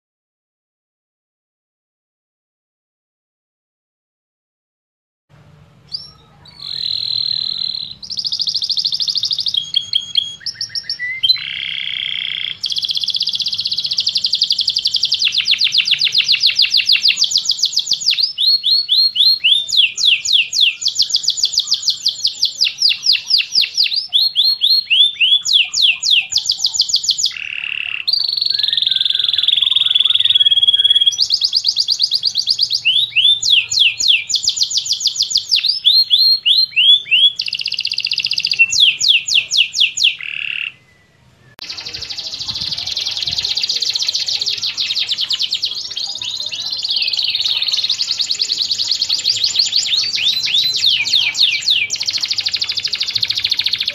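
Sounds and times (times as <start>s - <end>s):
canary singing trills: 5.9s - 53.9s.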